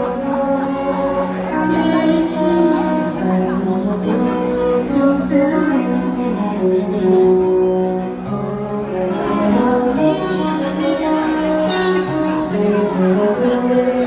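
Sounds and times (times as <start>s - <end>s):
woman singing: 0.0s - 7.1s, 8.5s - 14.0s
musical accompaniment: 0.0s - 14.0s.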